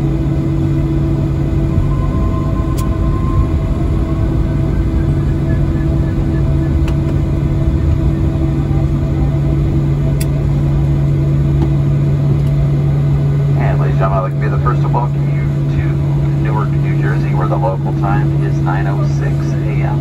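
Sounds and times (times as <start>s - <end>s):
constant rumble: 0.0s - 20.0s
jet engines idling hum: 0.0s - 20.0s.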